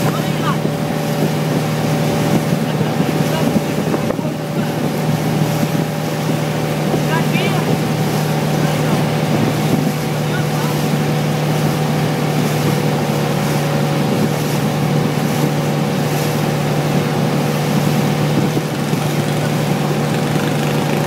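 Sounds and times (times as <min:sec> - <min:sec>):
motorboat engine droning: 0:00.0 - 0:21.0
rushing wind: 0:00.0 - 0:21.0
water rushing: 0:00.0 - 0:21.0.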